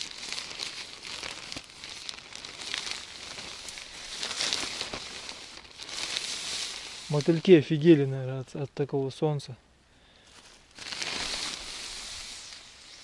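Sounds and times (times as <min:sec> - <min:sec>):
tent fabric rustling and crinkling: 0:00.0 - 0:08.1, 0:10.2 - 0:13.0.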